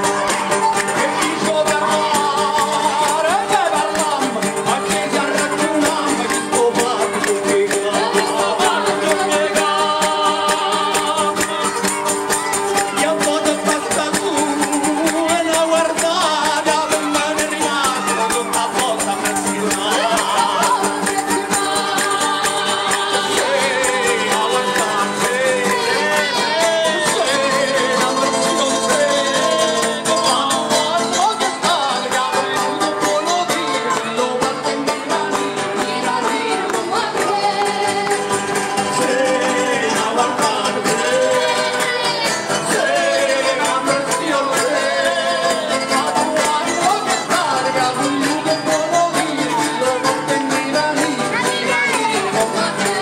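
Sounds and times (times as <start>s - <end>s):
people singing folk song: 0.0s - 53.0s.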